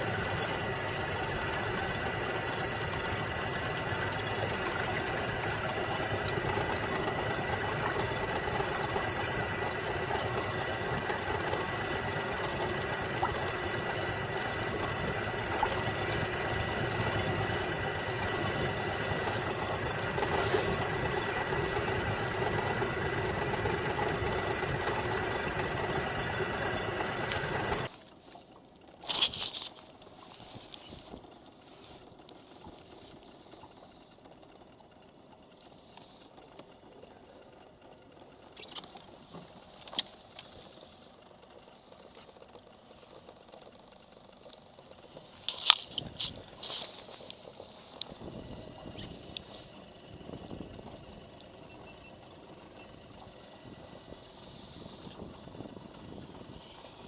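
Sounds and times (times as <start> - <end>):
boat motor running with whine: 0.0 - 57.0.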